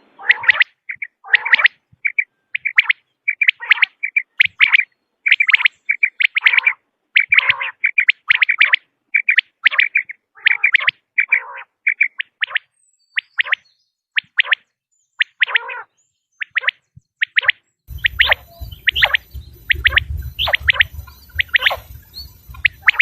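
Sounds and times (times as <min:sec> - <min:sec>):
quail calling: 0:00.0 - 0:13.6, 0:14.2 - 0:23.0.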